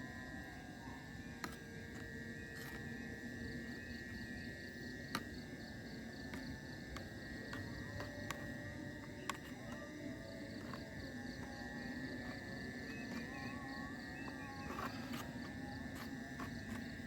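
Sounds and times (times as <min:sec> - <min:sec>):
crickets chirring: 0:00.0 - 0:17.0
pulsing insect trill: 0:00.0 - 0:17.0.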